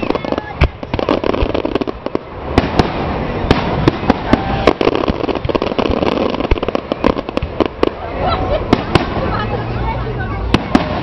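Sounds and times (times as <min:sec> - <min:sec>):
crackling rumble: 0:00.0 - 0:09.5
fireworks bursting with bangs: 0:00.0 - 0:11.0.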